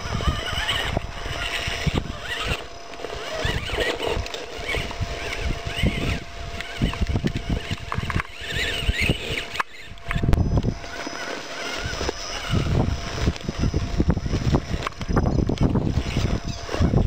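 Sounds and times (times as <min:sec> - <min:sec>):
electric motor whine: 0:00.0 - 0:17.0
wind rumbling on microphone: 0:00.0 - 0:17.0.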